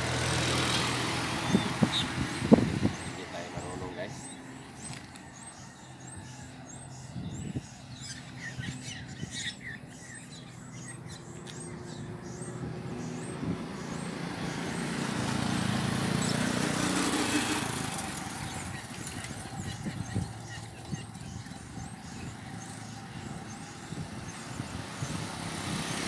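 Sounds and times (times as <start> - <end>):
birds chirping: 0.0 - 26.0
motor vehicle passing: 0.0 - 26.0.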